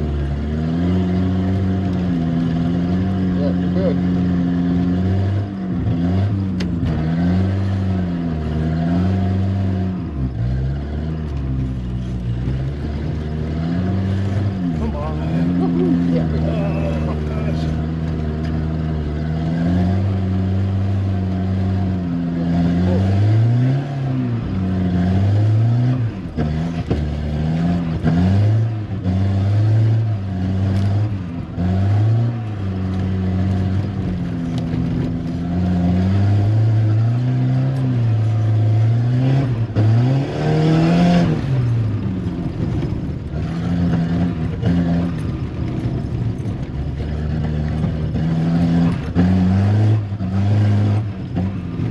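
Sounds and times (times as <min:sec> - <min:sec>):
car engine revving hard: 0:00.0 - 0:51.9.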